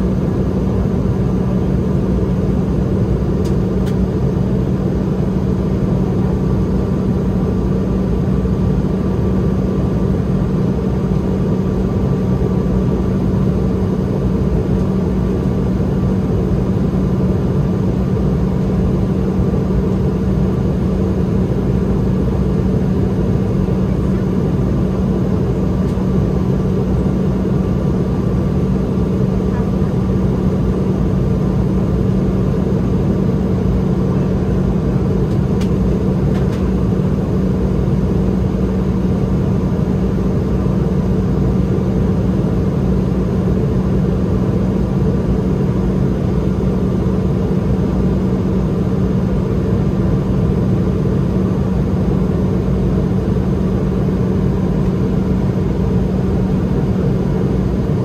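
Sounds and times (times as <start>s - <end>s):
aircraft cabin low hum: 0.0s - 58.0s.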